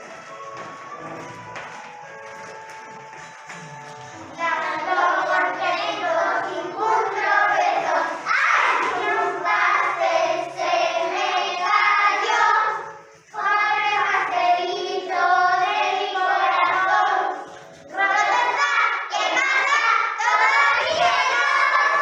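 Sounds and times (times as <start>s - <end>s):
young children singing: 3.4s - 22.0s.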